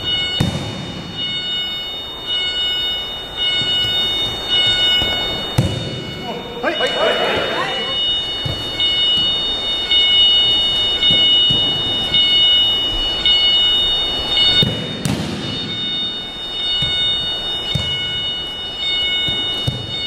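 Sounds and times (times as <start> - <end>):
pulsing high ringing tone: 0.0 - 20.0.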